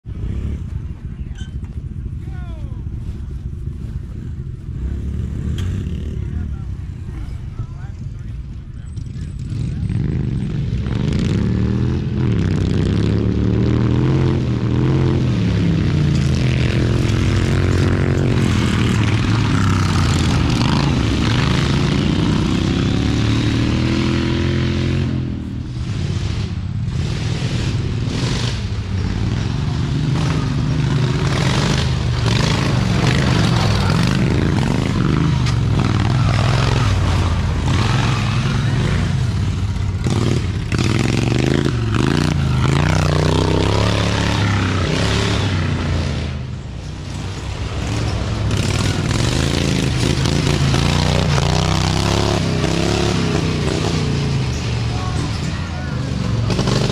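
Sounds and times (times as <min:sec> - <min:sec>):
lawn mower engines revving: 0:00.0 - 0:56.9.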